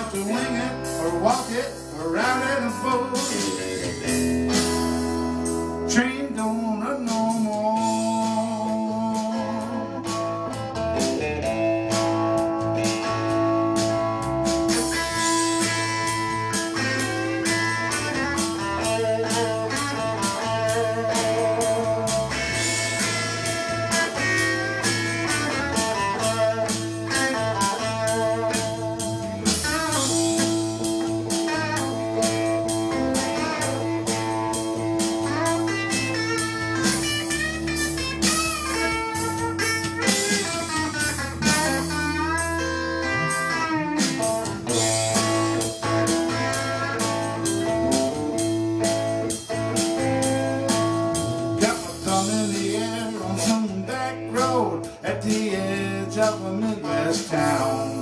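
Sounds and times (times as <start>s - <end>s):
steady drum beat: 0.0s - 6.0s, 6.6s - 58.0s
bass line: 0.0s - 58.0s
electric guitar bending notes: 0.0s - 58.0s.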